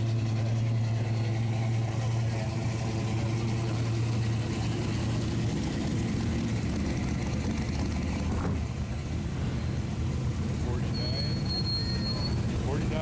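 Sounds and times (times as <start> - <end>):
car engines rumbling past: 0.0 - 13.0.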